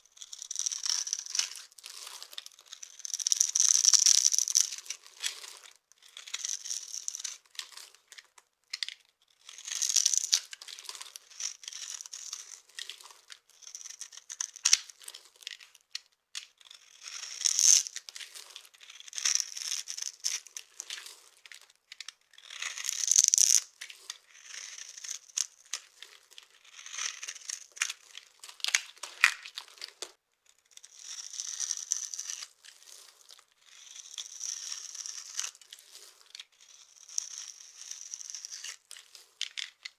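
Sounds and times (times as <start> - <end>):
knife cutting dry soap: 0.1 - 8.0, 8.9 - 15.8, 16.4 - 30.2, 30.8 - 39.9.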